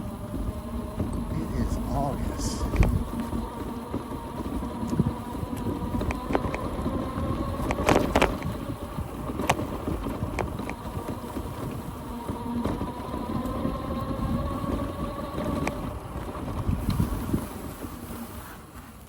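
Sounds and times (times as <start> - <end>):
electric motor whine: 0.0 - 17.7
tyre and wind rumble: 0.0 - 19.0.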